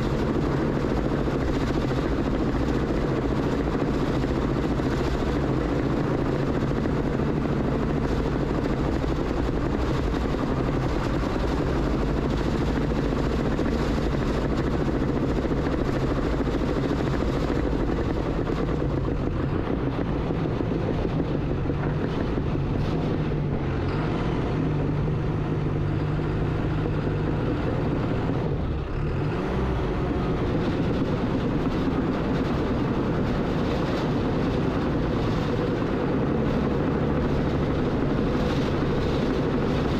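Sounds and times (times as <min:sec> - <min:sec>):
earthmoving machine engine: 0:00.0 - 0:39.9.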